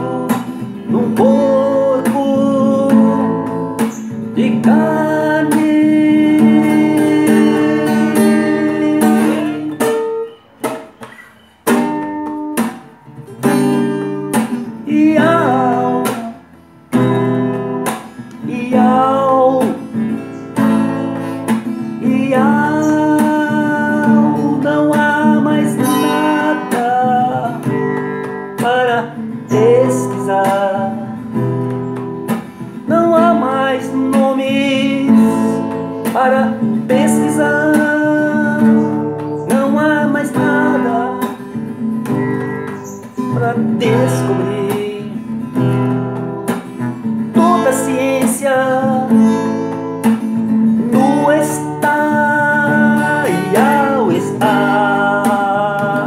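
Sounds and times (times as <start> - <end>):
person singing: 0.0 - 10.9, 12.6 - 41.6, 42.3 - 56.0
acoustic guitar strumming: 0.0 - 56.0.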